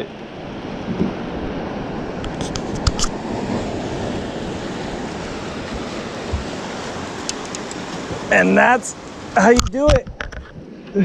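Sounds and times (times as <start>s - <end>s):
surf on rocky shore: 0.0s - 11.0s.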